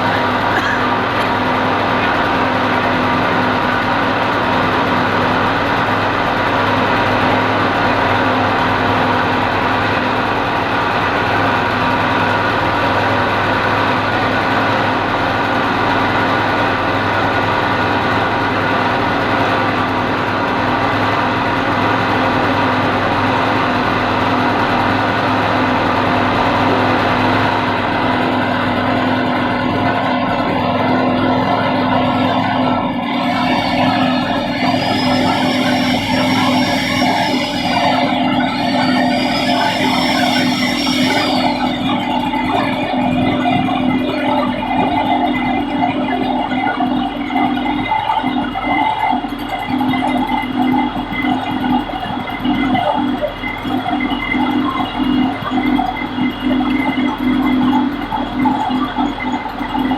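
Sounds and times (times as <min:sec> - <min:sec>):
construction machinery engine humming: 0:00.0 - 0:59.9.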